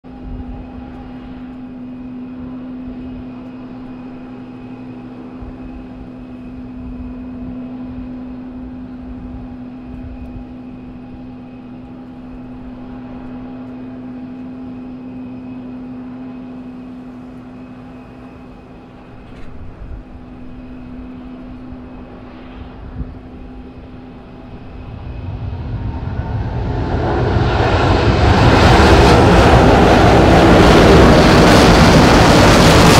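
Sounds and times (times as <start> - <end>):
jet engines humming: 0.0 - 32.9.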